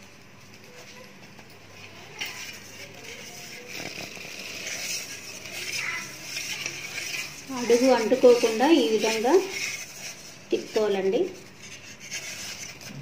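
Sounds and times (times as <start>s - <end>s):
flour rustling in metal bowl: 0.0s - 13.0s.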